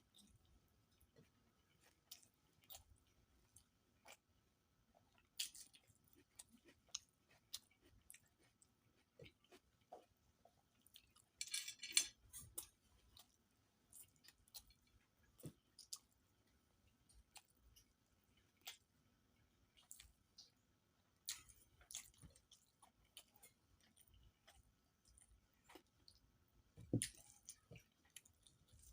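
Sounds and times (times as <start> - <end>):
person chewing food: 0.0 - 11.4, 12.1 - 28.9.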